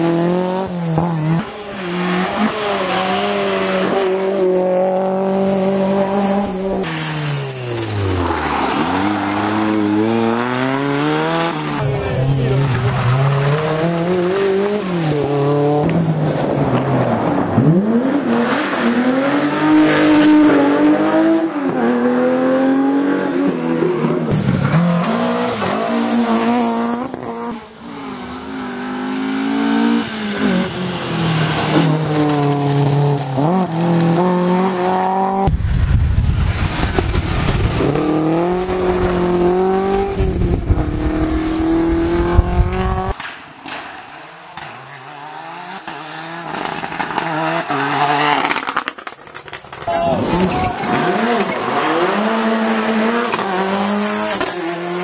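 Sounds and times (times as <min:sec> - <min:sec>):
rally car engines revving: 0:00.0 - 0:35.6, 0:36.4 - 0:43.8, 0:44.4 - 0:55.0.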